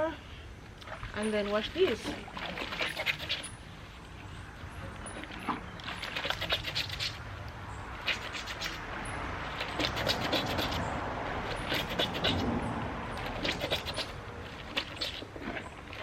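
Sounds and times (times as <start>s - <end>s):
clothes scrubbed in water: 0.8s - 4.4s, 5.0s - 16.0s.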